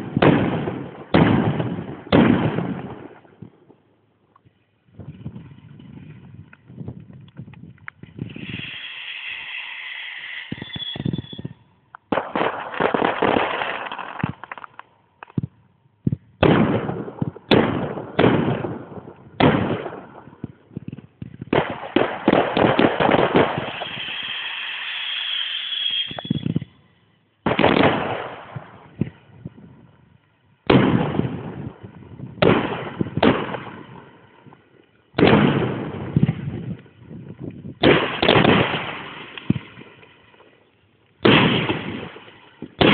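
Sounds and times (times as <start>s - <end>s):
fireworks bangs and crackle: 0.0s - 26.8s, 27.4s - 42.9s.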